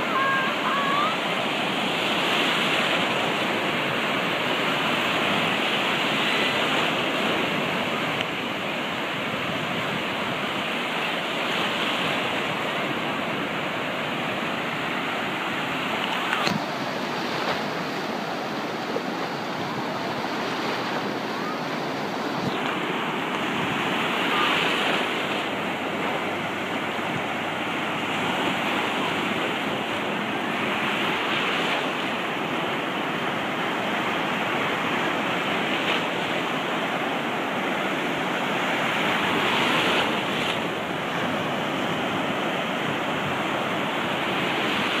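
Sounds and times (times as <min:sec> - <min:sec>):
waves breaking on beach: 0:00.0 - 0:45.0.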